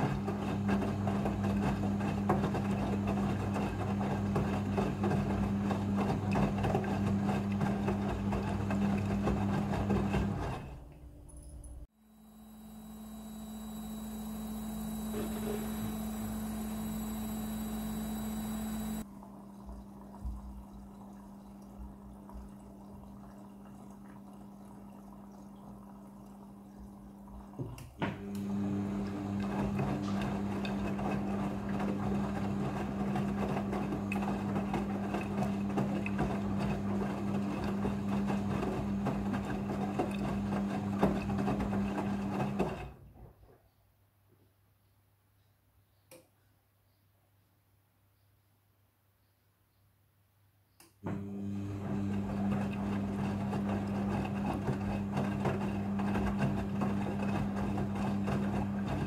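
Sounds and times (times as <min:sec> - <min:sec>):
washing machine motor hum: 0:00.0 - 0:43.1, 0:51.0 - 0:59.0.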